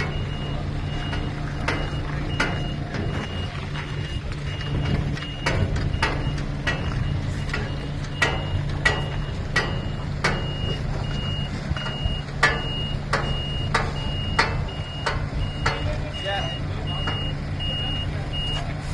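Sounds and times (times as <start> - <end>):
truck engine running: 0.0 - 18.9
truck reversing alarm beeping: 0.0 - 18.9.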